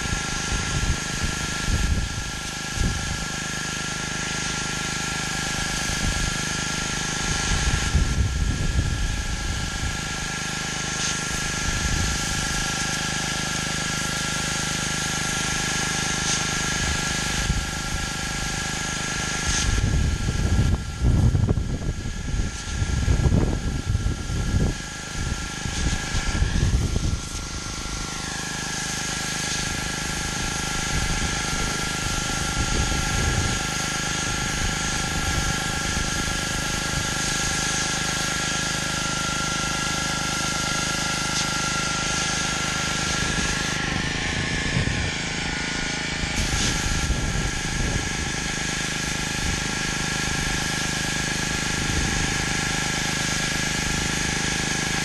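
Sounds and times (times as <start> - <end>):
pressure washer engine droning: 0.0 - 55.0
water spraying onto concrete: 0.0 - 55.0.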